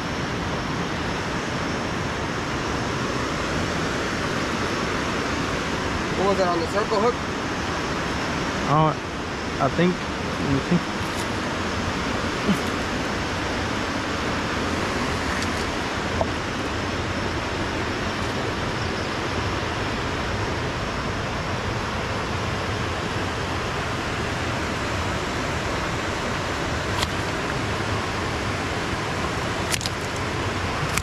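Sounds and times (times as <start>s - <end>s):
water rushing over a dam: 0.1s - 31.0s.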